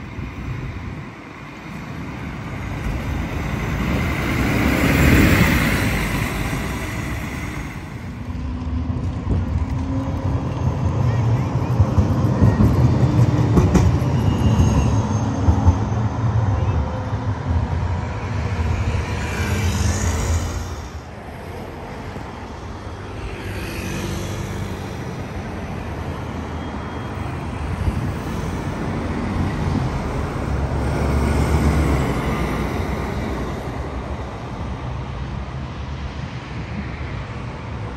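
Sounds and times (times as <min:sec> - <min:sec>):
vehicles passing with tyre noise: 0:00.0 - 0:37.9.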